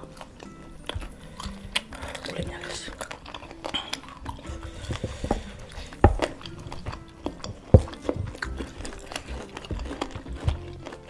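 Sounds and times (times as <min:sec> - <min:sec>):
chewing with wet mouth clicks: 0:00.0 - 0:11.0
crunching fried chicken skin: 0:00.0 - 0:11.0.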